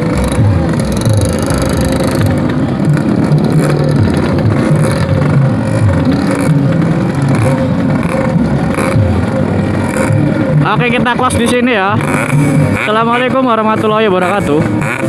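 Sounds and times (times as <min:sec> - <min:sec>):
two-stroke motorcycle engine running: 0:00.0 - 0:15.0.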